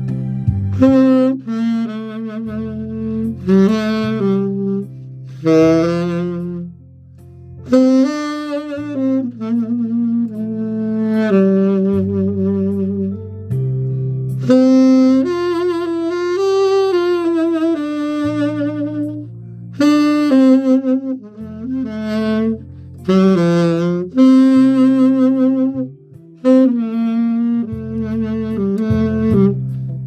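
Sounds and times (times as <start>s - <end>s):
backing track bass and chords: 0.0s - 30.0s
saxophone playing slow melody: 0.0s - 30.0s.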